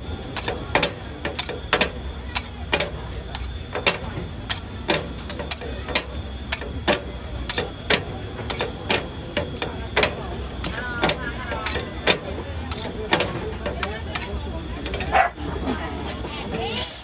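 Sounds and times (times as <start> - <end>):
metal spatula chopping on griddle: 0.3 - 15.3.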